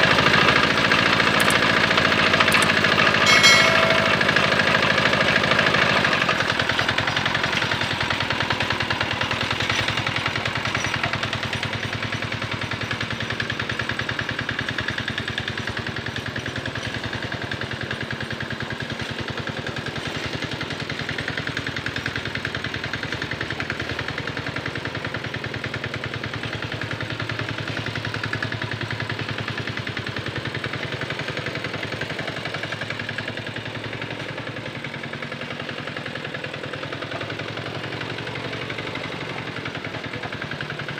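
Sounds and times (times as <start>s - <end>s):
diesel tractor engine chugging: 0.0s - 40.9s.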